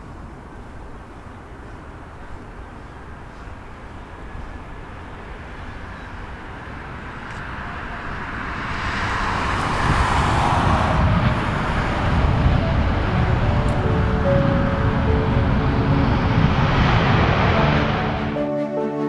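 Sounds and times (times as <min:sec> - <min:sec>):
jet engines roaring: 0:02.3 - 0:18.6.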